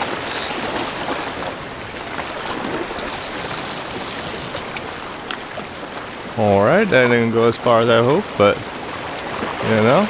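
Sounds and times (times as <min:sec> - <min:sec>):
ocean water washing on shore: 0:00.0 - 0:10.0.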